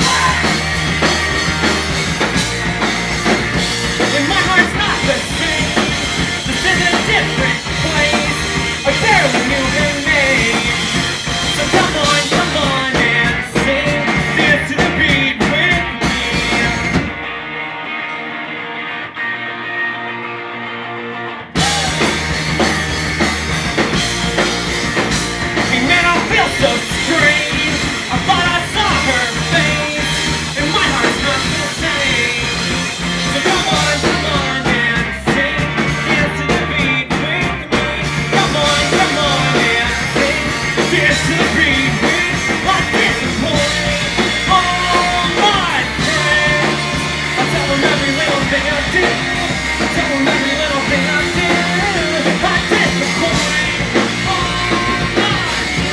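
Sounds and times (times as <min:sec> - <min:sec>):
person singing: 0:00.0 - 0:02.2, 0:03.9 - 0:17.0, 0:21.6 - 0:22.7, 0:25.6 - 0:55.9
guitar: 0:00.0 - 0:55.9
rock band playing loudly: 0:00.0 - 0:55.9.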